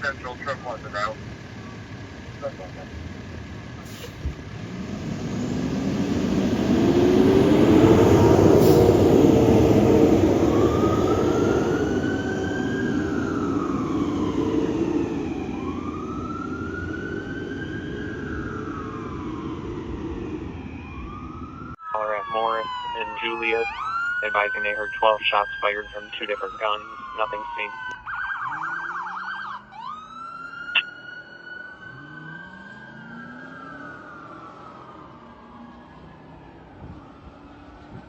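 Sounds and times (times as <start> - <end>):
truck engine: 0.0 - 38.0
low siren winding up: 4.0 - 38.0
electronic siren wail: 5.1 - 38.0.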